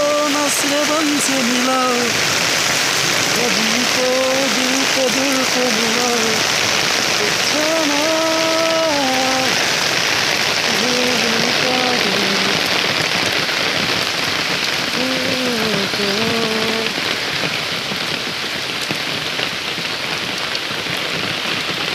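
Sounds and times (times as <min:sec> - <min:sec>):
heavy rain on foliage: 0:00.0 - 0:21.9.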